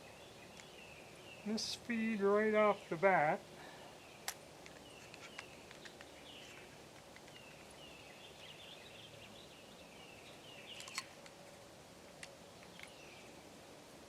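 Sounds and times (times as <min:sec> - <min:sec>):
birds chirping: 0:00.0 - 0:11.3, 0:12.4 - 0:13.5
faint outdoor background hiss: 0:00.0 - 0:14.0.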